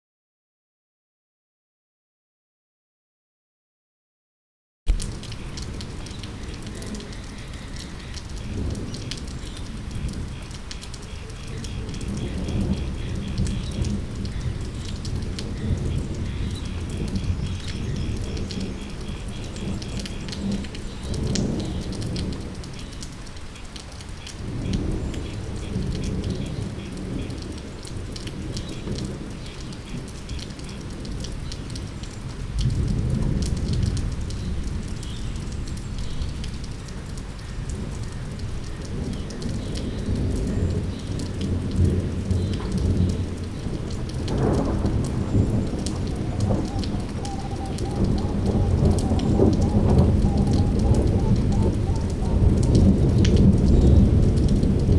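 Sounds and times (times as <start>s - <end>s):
thunder rumbling: 4.9s - 22.8s, 24.4s - 36.7s, 37.7s - 54.9s
rain falling with drips: 4.9s - 54.9s.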